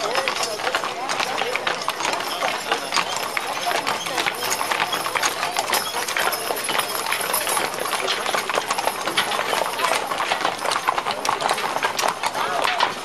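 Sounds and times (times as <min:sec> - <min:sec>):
horse hooves on asphalt: 0:00.0 - 0:13.0.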